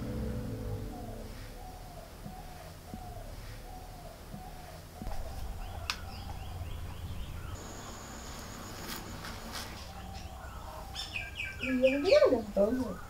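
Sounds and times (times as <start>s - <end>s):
bird chirping: 0.6s - 13.0s.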